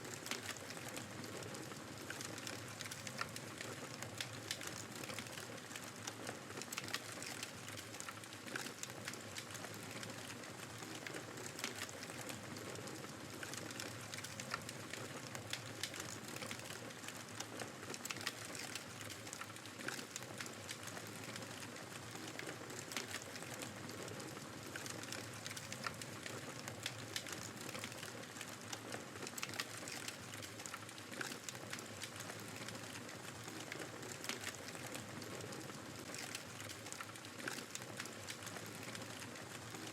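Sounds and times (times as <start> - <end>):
wood fire crackling and popping: 0.1 - 39.9.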